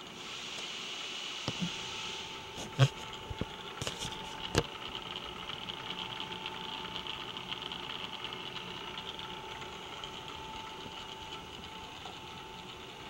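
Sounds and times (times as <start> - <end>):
milling machine motor hum: 0.0 - 13.0.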